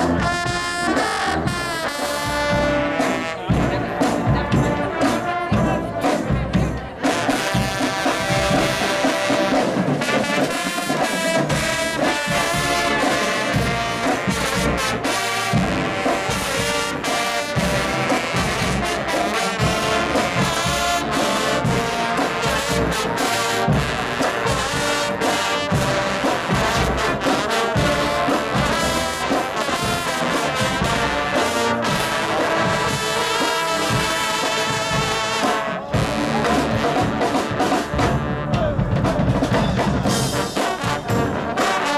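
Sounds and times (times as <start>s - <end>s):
low brass ensemble playing: 0.0s - 41.9s.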